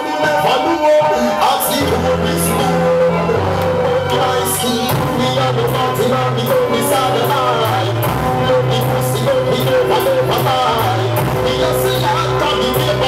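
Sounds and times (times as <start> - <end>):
person singing: 0.0 - 13.0
bass line: 1.7 - 13.0
steady beat: 1.8 - 13.0.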